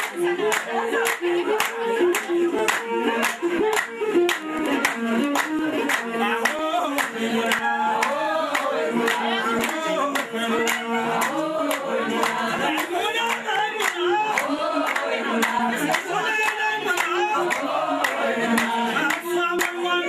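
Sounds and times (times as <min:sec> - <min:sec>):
group singing: 0:00.0 - 0:04.0, 0:04.6 - 0:20.0
held instrumental notes: 0:00.0 - 0:20.0
rhythmic hand-clapping: 0:00.0 - 0:20.0.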